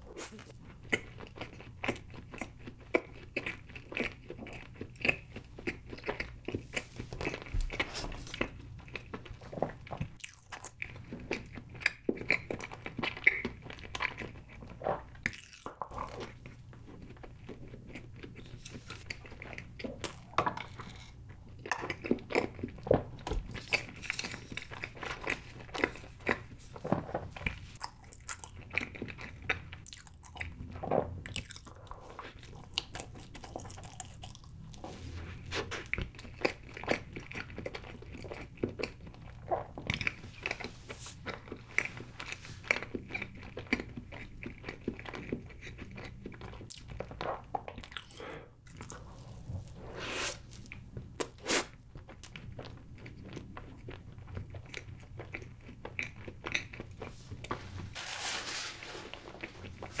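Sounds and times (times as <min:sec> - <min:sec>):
chewing with small crunches: 0:00.0 - 0:58.0, 0:59.1 - 1:00.0.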